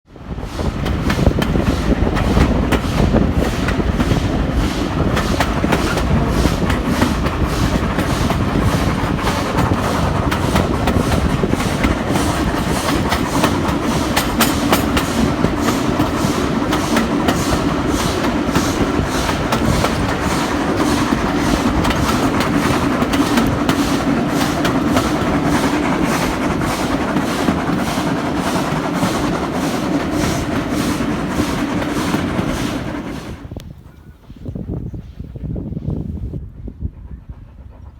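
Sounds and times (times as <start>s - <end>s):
train running on track: 0.0s - 37.9s.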